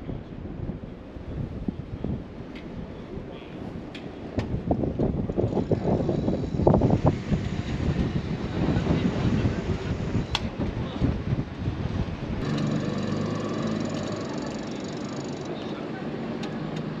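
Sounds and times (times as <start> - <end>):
gusty wind on microphone: 0.0 - 15.5.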